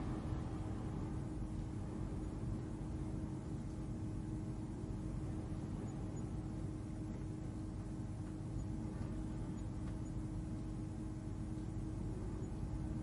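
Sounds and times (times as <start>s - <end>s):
constant droning tone: 0.0s - 13.0s
deep ambient rumble: 0.0s - 13.0s.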